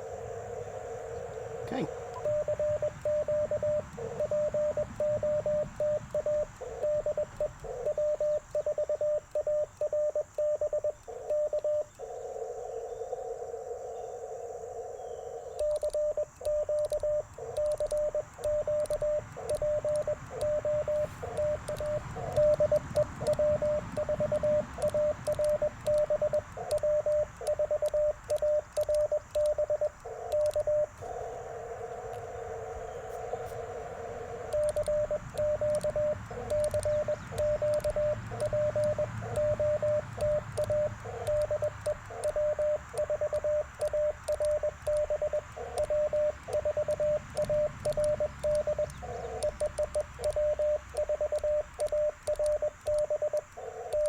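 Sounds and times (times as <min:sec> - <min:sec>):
receiver hiss: 0:00.0 - 0:12.5, 0:13.2 - 0:54.0
morse code tone: 0:01.6 - 0:11.9, 0:15.6 - 0:32.3, 0:33.1 - 0:54.0.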